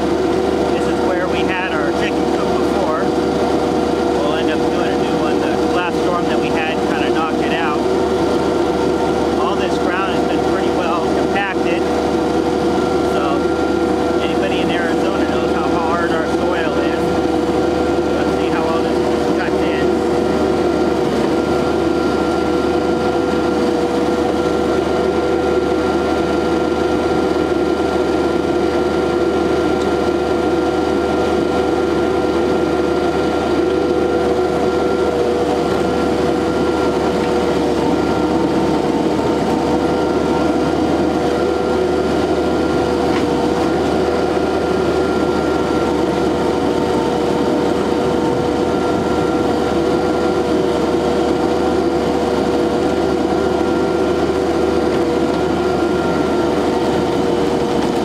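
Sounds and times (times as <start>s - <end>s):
mini loader engine whine: 0.0s - 58.0s.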